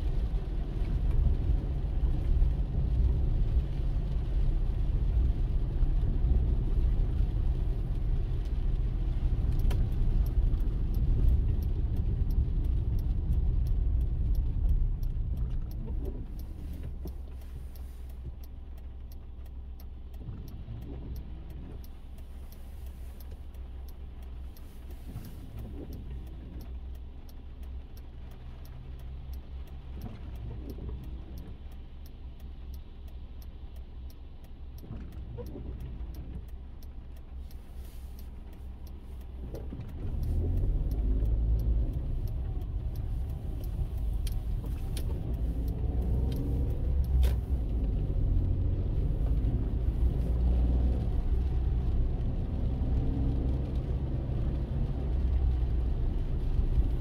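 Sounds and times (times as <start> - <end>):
low engine hum: 0.0 - 57.0
road and tyre rumble: 0.0 - 57.0.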